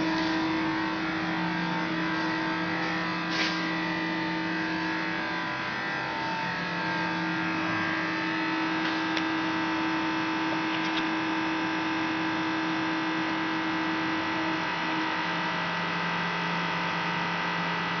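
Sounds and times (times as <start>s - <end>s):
electrical machinery hum: 0.0s - 18.0s.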